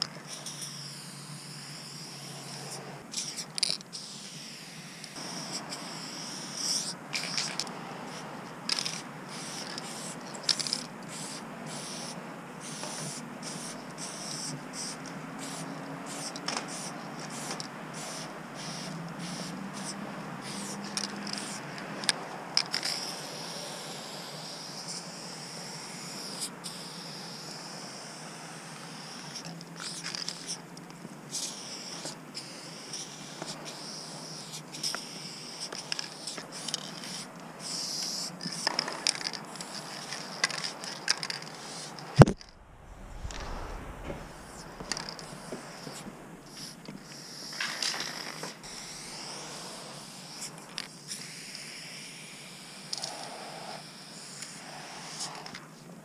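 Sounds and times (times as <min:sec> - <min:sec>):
spray paint can hissing: 0:00.3 - 0:21.6, 0:22.7 - 0:30.6, 0:31.3 - 0:42.0, 0:44.6 - 0:50.5.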